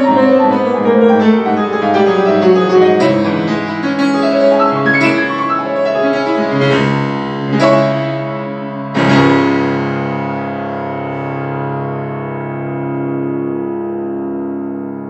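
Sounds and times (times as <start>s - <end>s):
grand piano classical piece: 0.0s - 15.0s.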